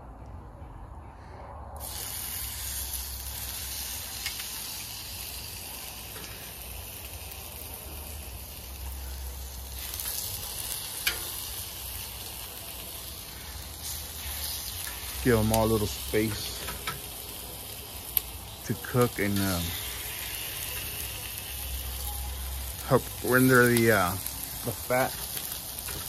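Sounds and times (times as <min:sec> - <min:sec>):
chicken wings sizzling on griddle: 0:01.8 - 0:26.0.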